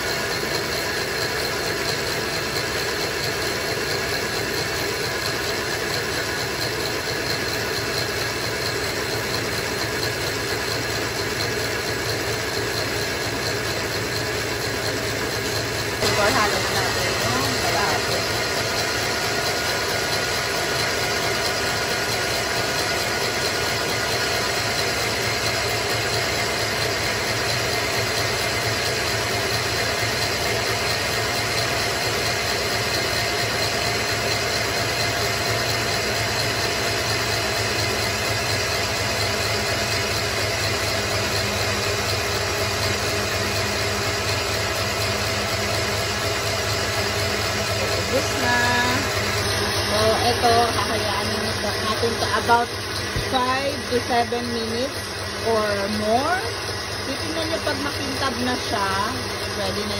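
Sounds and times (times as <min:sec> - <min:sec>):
stand mixer motor whisking: 0:00.0 - 0:59.9.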